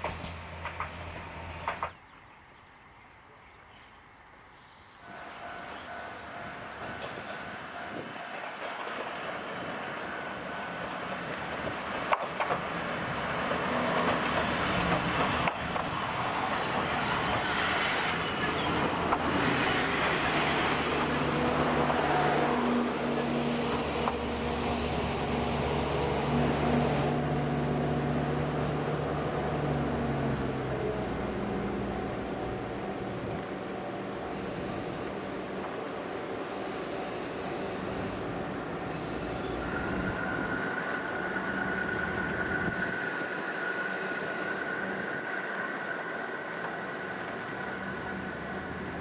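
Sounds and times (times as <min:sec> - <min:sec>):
diesel railcar engine drone: 0:00.0 - 0:02.4, 0:04.5 - 0:49.0.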